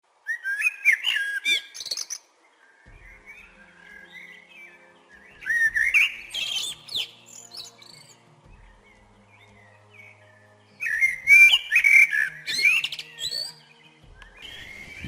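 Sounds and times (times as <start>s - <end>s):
quiet bird chirping: 0.1s - 15.0s
songbirds warbling: 0.3s - 15.0s.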